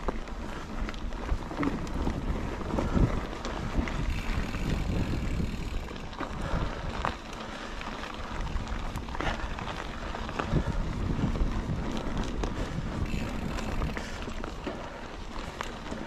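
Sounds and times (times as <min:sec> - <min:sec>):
bike clicks and rattles: 0:00.0 - 0:16.0
tyre noise on dirt: 0:00.0 - 0:16.0
wind buffeting microphone: 0:00.0 - 0:16.0.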